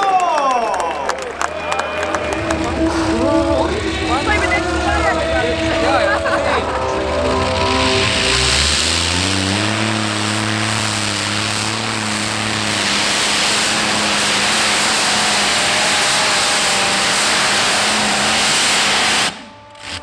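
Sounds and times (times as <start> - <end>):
tractor engine at full power: 0.0 - 20.0.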